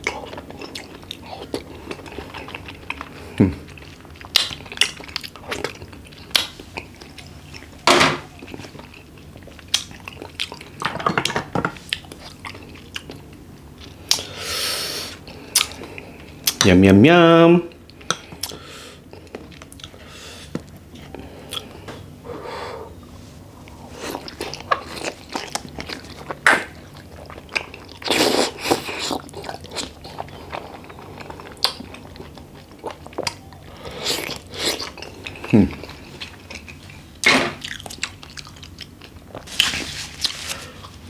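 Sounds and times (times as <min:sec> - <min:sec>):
person chewing: 0:00.0 - 0:16.7, 0:17.7 - 0:23.0, 0:23.6 - 0:41.0.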